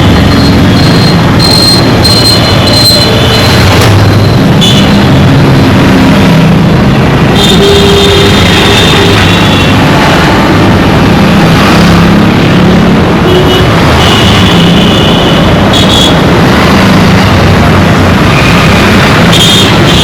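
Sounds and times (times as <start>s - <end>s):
car and motorcycle engines: 0.0s - 20.0s.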